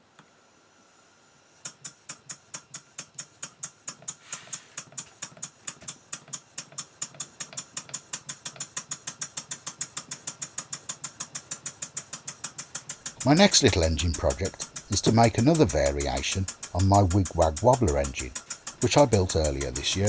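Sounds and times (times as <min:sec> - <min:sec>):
steam engine exhaust puffing: 0:01.6 - 0:20.0.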